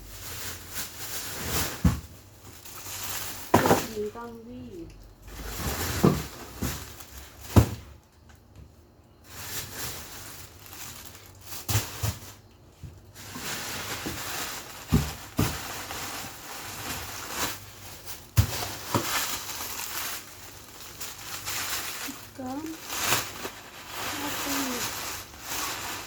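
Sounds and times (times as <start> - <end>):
plastic rustling: 0.0 - 8.5, 9.2 - 26.0
frozen packages knocking down: 0.5 - 4.4, 5.3 - 8.0, 9.4 - 12.4, 13.1 - 26.0.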